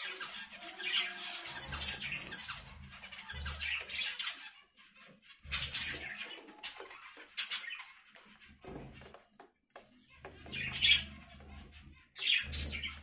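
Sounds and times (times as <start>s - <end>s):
budgerigars chattering: 0.0s - 9.1s, 10.4s - 13.0s.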